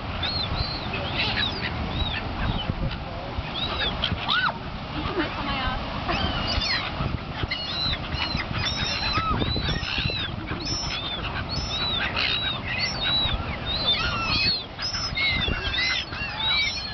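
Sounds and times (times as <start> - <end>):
gulls squawking: 0.0 - 16.9.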